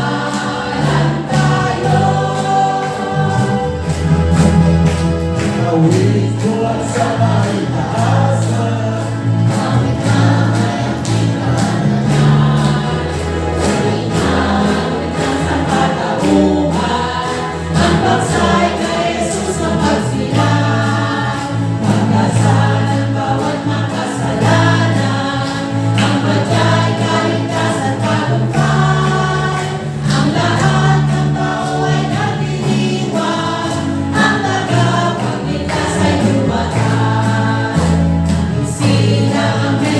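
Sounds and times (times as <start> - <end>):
choir singing: 0.0 - 39.9
instrumental accompaniment with beat: 0.0 - 39.9.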